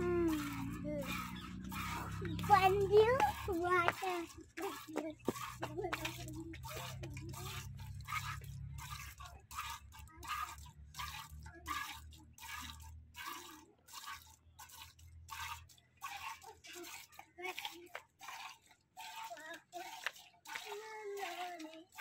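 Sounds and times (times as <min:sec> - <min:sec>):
milk squirting into steel pail: 0:00.0 - 0:22.0.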